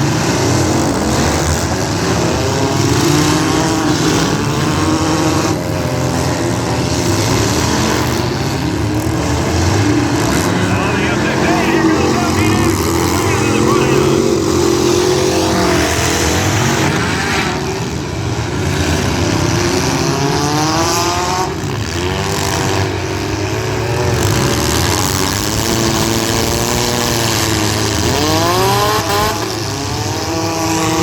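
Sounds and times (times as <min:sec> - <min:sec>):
car engines revving hard: 0:00.0 - 0:31.0.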